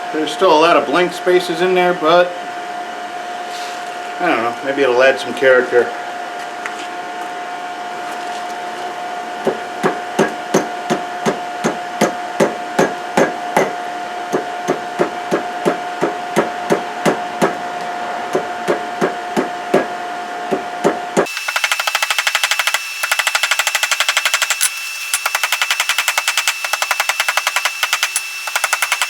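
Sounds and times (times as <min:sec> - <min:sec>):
forge blower whirring hum: 0:00.0 - 0:29.0.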